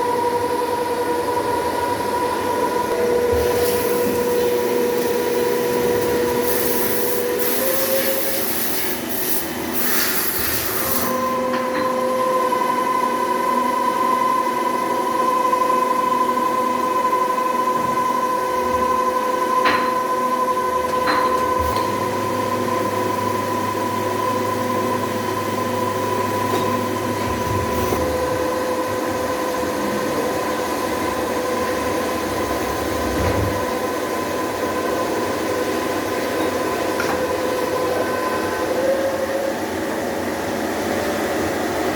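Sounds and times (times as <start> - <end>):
cnc machine whining: 0.0 - 41.9.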